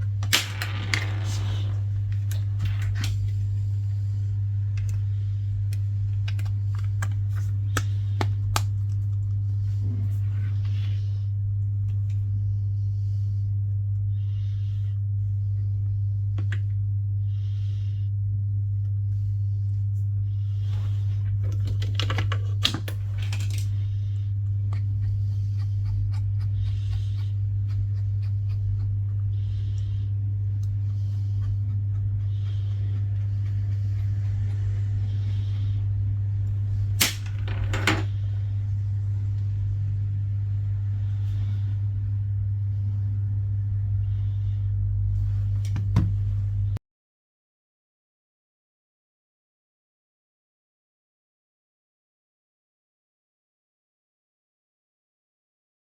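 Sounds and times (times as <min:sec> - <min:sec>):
steady low hum: 0:00.0 - 0:46.8.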